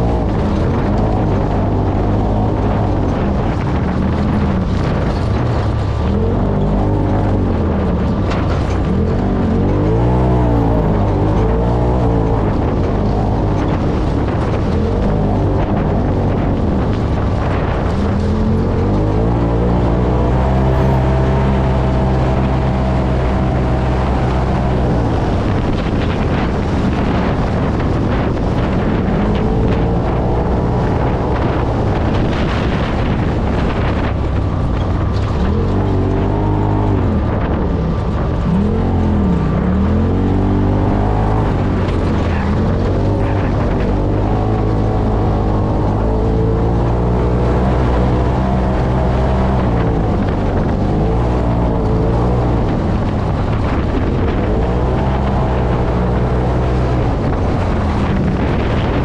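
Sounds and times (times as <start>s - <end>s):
engine running hard: 0.0s - 59.0s
wind buffeting microphone: 0.0s - 59.0s.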